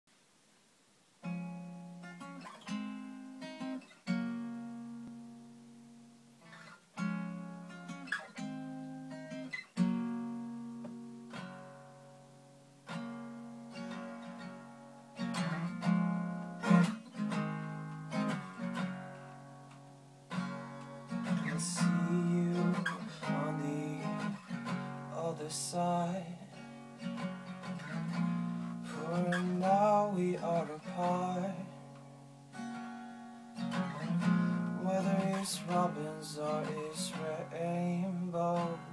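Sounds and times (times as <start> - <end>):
acoustic guitar strumming: 1.2 - 38.9.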